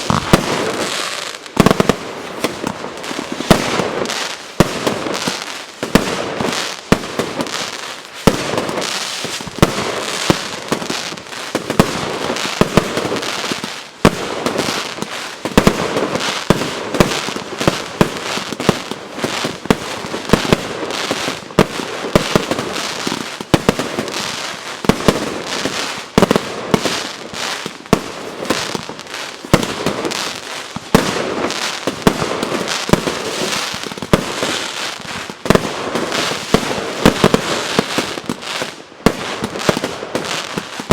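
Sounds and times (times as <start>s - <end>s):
firework bangs: 0.0s - 40.9s
firework crackling: 0.0s - 40.9s.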